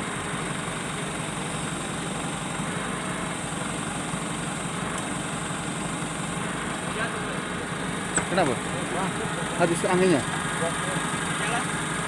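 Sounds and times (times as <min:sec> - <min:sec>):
crane engine idling: 0:00.0 - 0:12.0.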